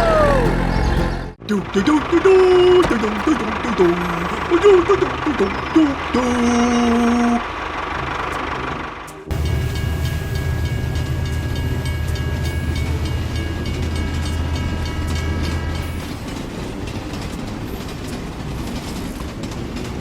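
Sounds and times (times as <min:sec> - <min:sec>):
low mechanical rumble: 0:00.0 - 0:17.9.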